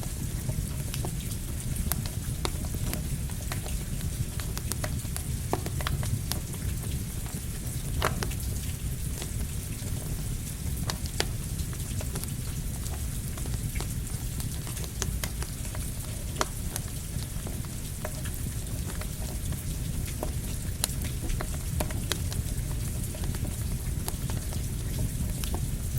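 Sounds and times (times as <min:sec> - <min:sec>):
campfire crackling: 0:00.0 - 0:25.9
steady rain: 0:00.0 - 0:25.9.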